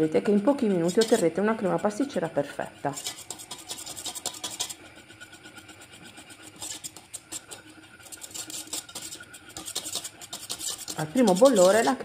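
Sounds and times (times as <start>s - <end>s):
whisk scraping a metal saucepan: 0.0s - 12.0s.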